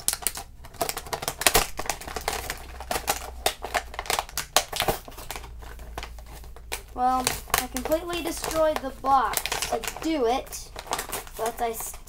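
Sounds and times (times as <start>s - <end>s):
packaging being torn by hand: 0.0s - 12.0s.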